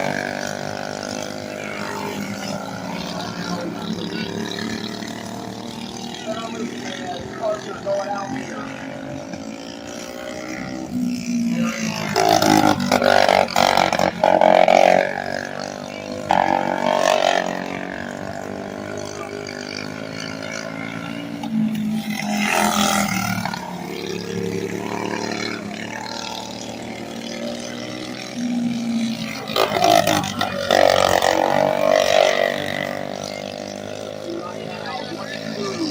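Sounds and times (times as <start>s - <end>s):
racing kart engines passing: 0.0s - 35.9s.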